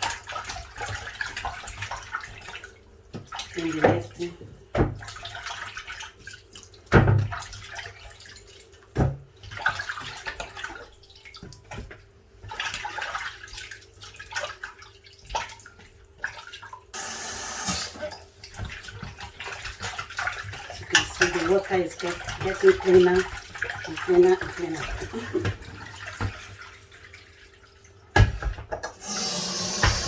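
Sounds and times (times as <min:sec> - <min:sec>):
water sloshing in a bowl: 0:00.0 - 0:17.0, 0:17.8 - 0:30.0.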